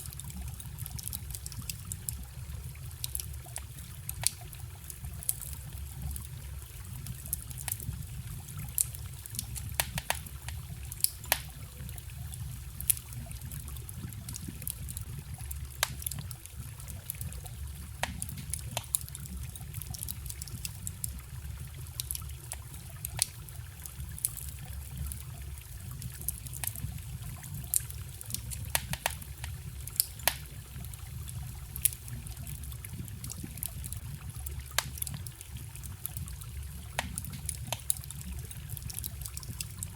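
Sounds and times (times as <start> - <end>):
campfire crackling and popping: 0.0 - 39.9
stream trickling: 0.0 - 39.9.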